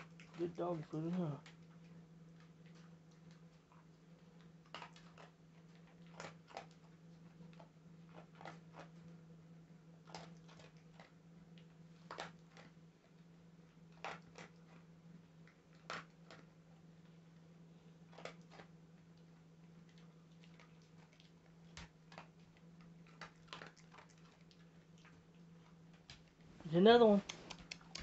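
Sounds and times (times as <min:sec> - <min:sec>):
dog crunching dry kibble: 0:00.0 - 0:28.0
steady low hum: 0:00.0 - 0:28.0.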